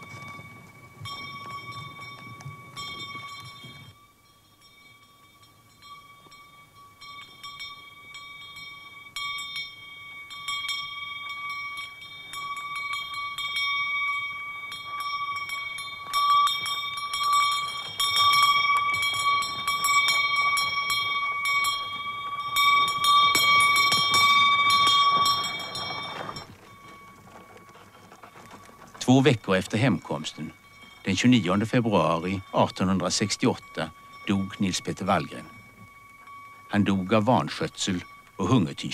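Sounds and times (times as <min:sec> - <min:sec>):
sleigh bells jingling: 0:00.0 - 0:38.9.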